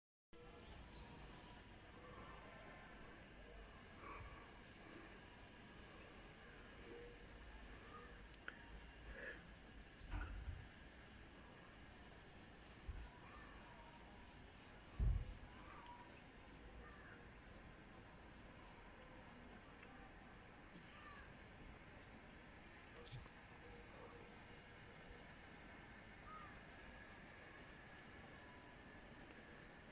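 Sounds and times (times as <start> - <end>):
insects chirping: 0.4 - 29.9.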